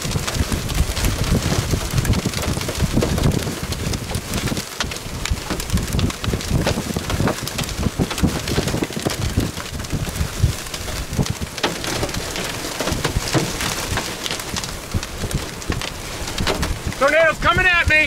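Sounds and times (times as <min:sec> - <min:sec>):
low wind rumble: 0:00.0 - 0:18.0
rain hiss: 0:00.0 - 0:18.0
raindrops ticking: 0:00.0 - 0:18.0.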